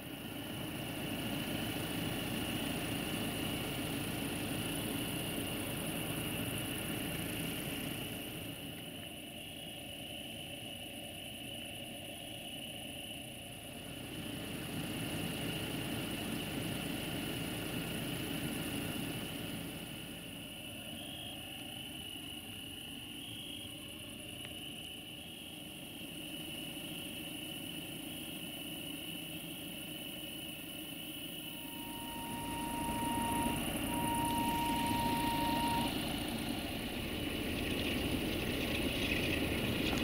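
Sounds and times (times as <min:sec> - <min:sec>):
crickets chirring: 0:00.0 - 0:40.0
distant diesel locomotive rumble: 0:00.0 - 0:40.0.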